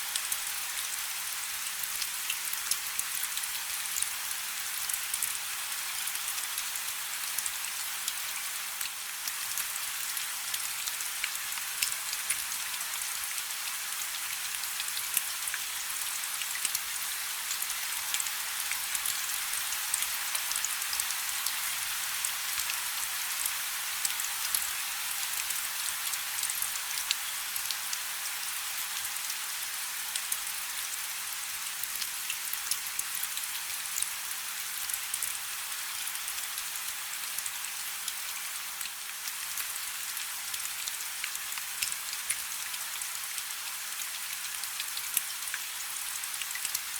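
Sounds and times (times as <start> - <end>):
light rain falling: 0.0 - 46.9.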